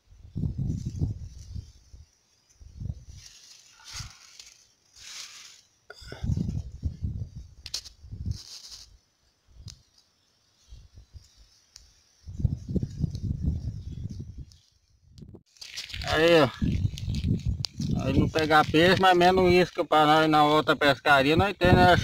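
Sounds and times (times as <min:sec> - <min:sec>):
grass and reeds rustling: 0:00.0 - 0:22.0.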